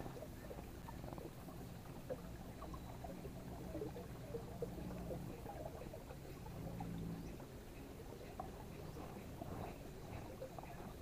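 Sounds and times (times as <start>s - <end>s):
low steady hum: 0.0s - 11.0s
water lapping against boat hull: 0.0s - 11.0s.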